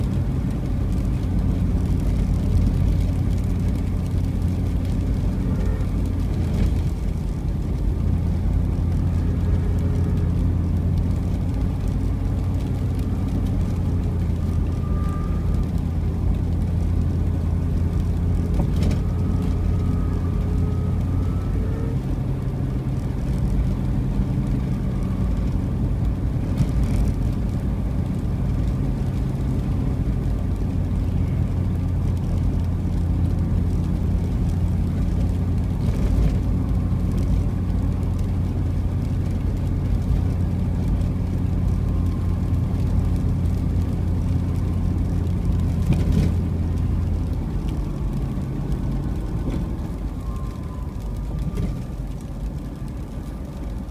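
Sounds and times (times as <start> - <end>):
car engine and road hum: 0.0 - 53.9.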